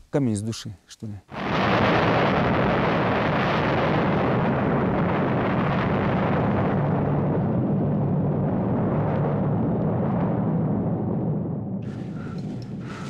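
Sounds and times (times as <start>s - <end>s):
avalanche rumbling: 1.3s - 13.0s.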